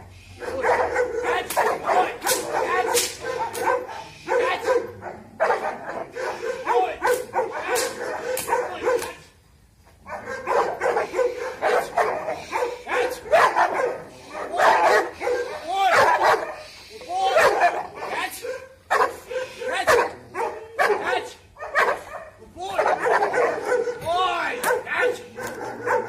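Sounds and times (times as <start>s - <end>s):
dogs barking: 0.4s - 9.2s, 10.0s - 26.0s.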